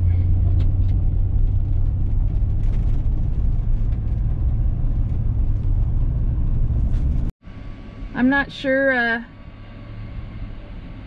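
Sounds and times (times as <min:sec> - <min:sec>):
vehicle engine and tyres rumbling: 0:00.0 - 0:11.0.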